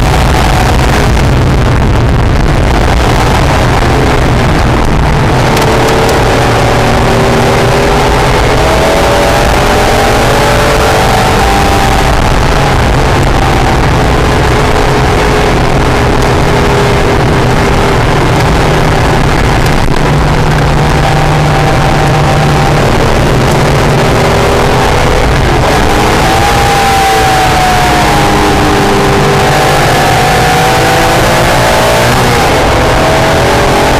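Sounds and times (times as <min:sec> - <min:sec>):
race car engine: 0:00.0 - 0:33.9
wind and road noise: 0:00.0 - 0:33.9.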